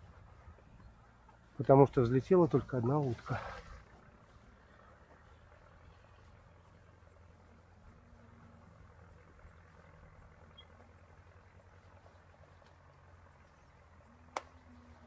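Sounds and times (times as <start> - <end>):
faint low outdoor rumble: 0.0 - 15.0.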